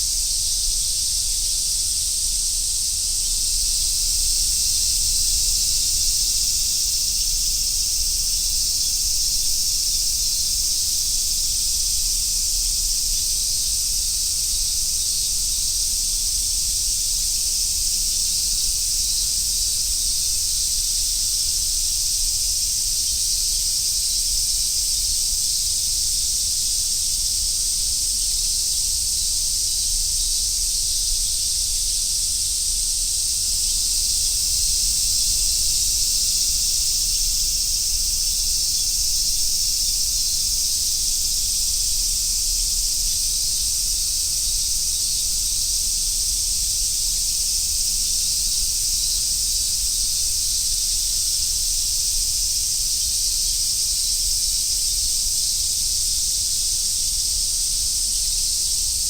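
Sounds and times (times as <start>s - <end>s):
cicadas buzzing: 0.0s - 59.0s.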